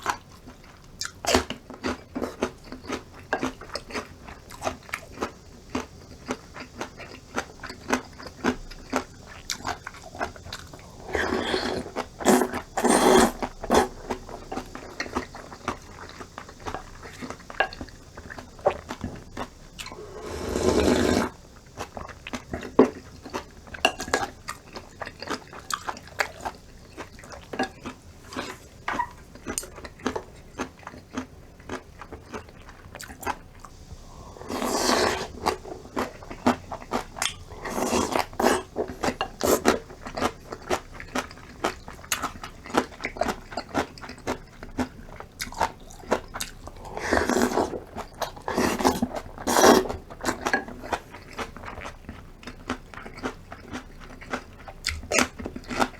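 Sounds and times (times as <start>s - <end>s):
chewing with crisp crunches: 0.0s - 55.9s.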